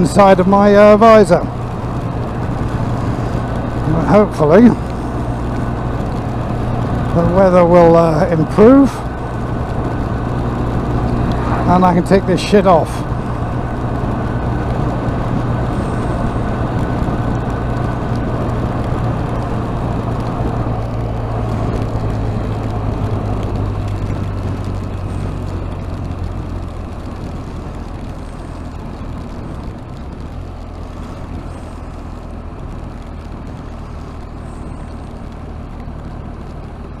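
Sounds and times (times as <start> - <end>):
motorcycle engine drone: 0.0 - 37.0
wind and road rush: 0.0 - 37.0.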